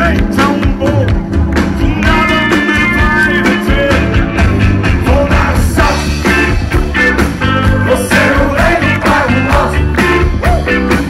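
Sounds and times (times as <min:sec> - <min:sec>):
driving drum beat: 0:00.0 - 0:11.0
live rock band playing: 0:00.0 - 0:11.0.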